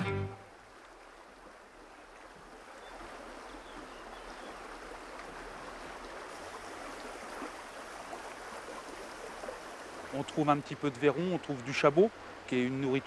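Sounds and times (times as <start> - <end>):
river babbling: 0.0 - 13.0.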